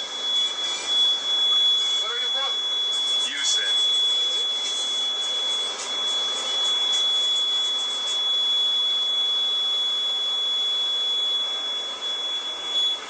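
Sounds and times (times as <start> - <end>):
high-pitched electronic tone: 0.0 - 13.0.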